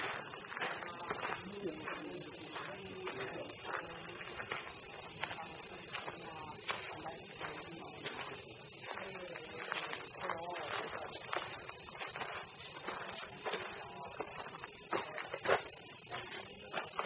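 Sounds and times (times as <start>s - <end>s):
cicadas buzzing: 0.0s - 17.0s
faint distant voices: 0.0s - 17.0s.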